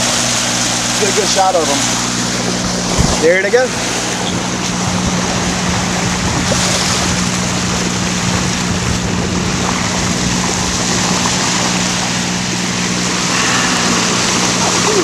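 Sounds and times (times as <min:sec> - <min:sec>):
steady low hum: 0:00.0 - 0:15.0
water rushing past boat: 0:00.0 - 0:15.0
wind on microphone: 0:02.2 - 0:12.4, 0:13.0 - 0:15.0.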